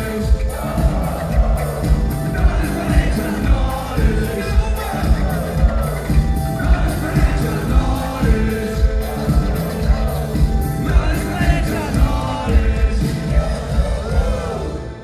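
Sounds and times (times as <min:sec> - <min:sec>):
drum beat: 0:00.0 - 0:15.0
hip-hop band playing: 0:00.0 - 0:15.0
person singing: 0:00.0 - 0:15.0.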